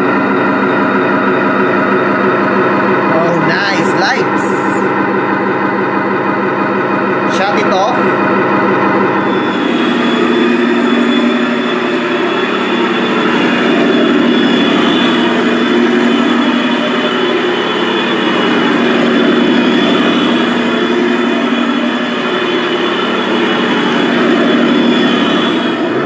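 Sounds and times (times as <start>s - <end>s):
model tank mechanical drone: 0.0s - 26.0s.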